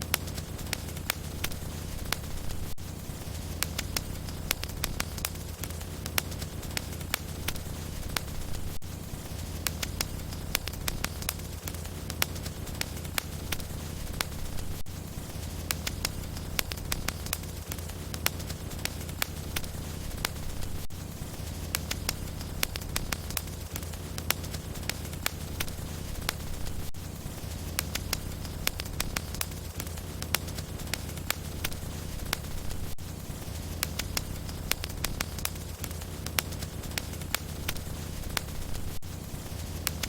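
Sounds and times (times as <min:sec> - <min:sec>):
fire crackling and popping: 0:00.0 - 0:40.0
low rumble of flames: 0:00.0 - 0:40.0.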